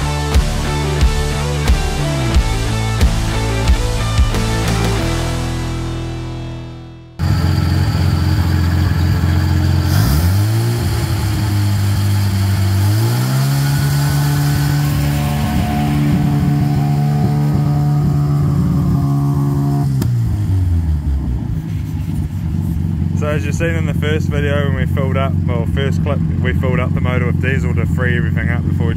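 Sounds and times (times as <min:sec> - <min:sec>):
rotary engine idling and revving: 0:00.0 - 0:06.2, 0:07.2 - 0:28.9.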